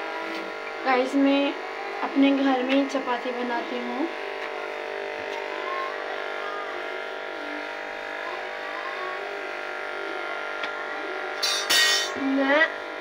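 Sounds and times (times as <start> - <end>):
electrical buzzing hum: 0.0 - 13.0.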